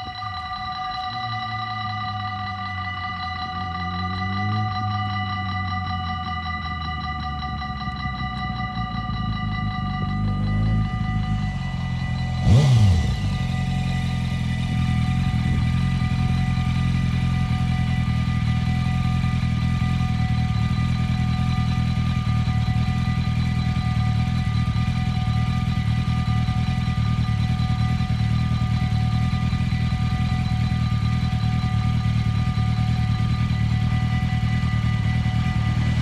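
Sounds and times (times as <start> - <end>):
level crossing bell ringing: 0.0 - 36.0
low engine-like hum: 0.0 - 36.0.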